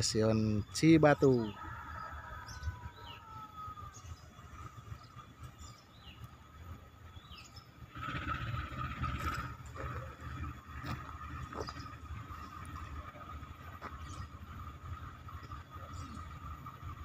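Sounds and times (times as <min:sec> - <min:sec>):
birds chirping: 0:00.0 - 0:17.0
distant diesel locomotive rumbling: 0:00.0 - 0:17.0.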